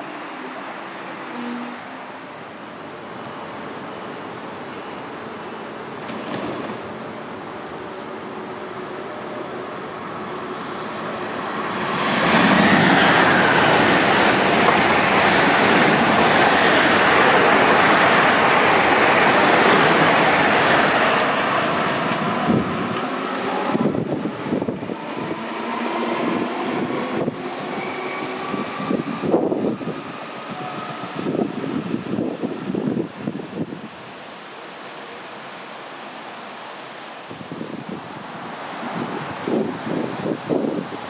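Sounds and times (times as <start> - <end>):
high-speed train rushing roar: 0.0 - 41.0.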